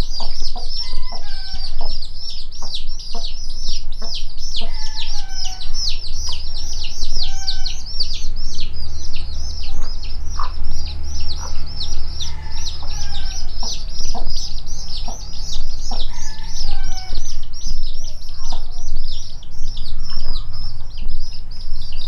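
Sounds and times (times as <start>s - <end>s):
baby chicks peeping: 0.0s - 22.0s
hen clucking: 0.0s - 22.0s.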